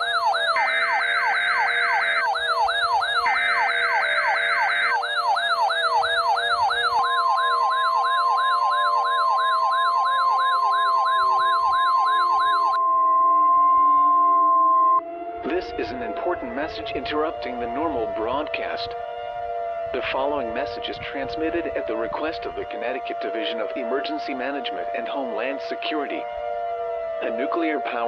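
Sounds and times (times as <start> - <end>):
electronic yelp siren: 0.0 - 28.0
wavering siren tone: 0.0 - 28.0.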